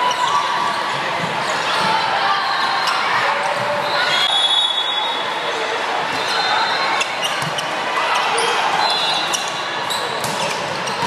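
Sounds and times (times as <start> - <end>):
gym crowd hubbub: 0.0 - 11.0
sneakers squeaking: 0.0 - 11.0.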